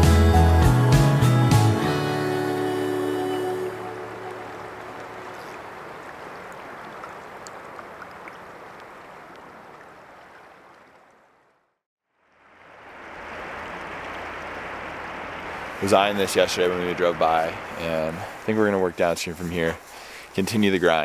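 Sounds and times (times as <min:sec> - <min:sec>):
river water rushing: 0:01.8 - 0:11.4, 0:12.2 - 0:20.5.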